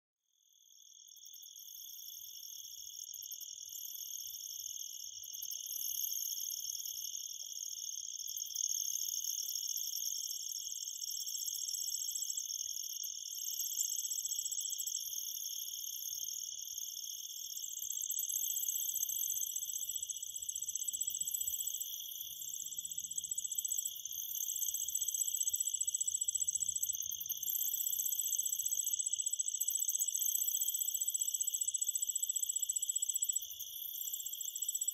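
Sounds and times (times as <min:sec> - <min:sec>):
insects chirping: 0:00.5 - 0:34.9.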